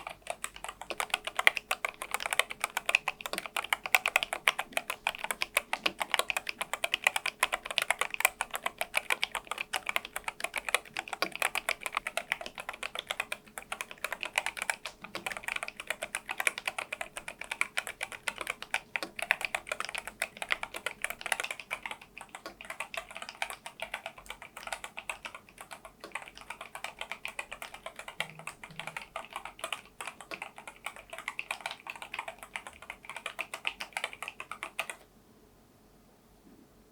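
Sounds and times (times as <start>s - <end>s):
fast keyboard typing: 0.0s - 35.1s.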